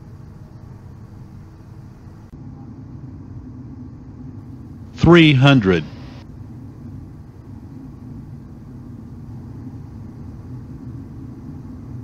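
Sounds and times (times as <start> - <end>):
jet engine and airflow rumble: 0.0 - 12.0.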